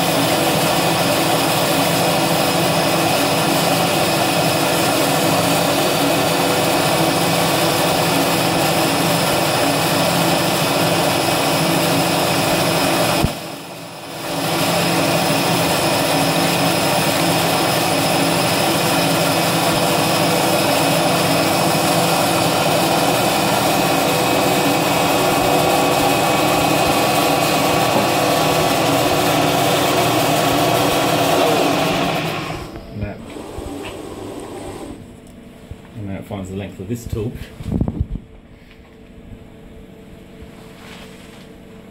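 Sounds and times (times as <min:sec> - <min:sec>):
milling machine spindle whine: 0:00.0 - 0:35.3.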